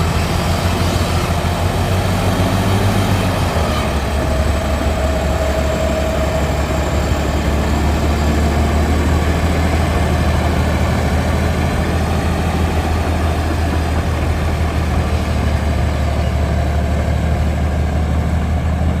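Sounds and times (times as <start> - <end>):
bulldozer diesel engine droning: 0.0 - 19.0.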